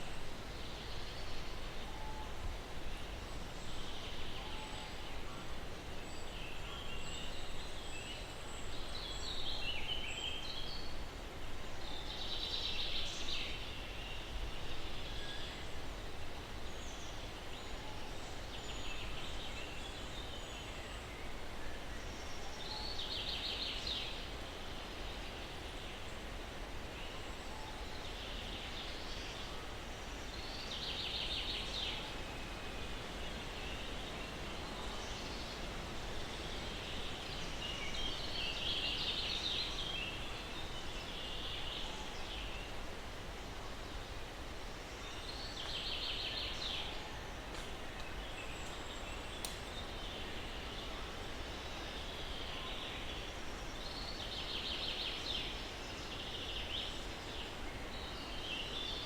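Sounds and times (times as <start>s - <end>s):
breeze through pine trees: 0.0s - 59.0s.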